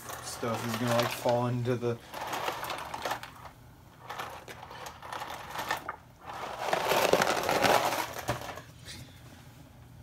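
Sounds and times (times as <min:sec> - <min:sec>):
dry pasta rattling in cardboard box: 0:00.0 - 0:08.7.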